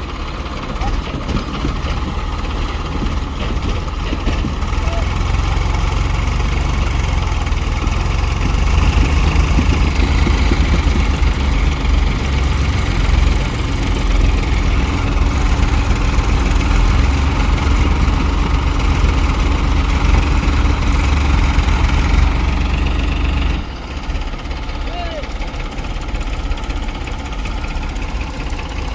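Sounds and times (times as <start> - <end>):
tractor diesel engine rumbling: 0.0 - 28.9.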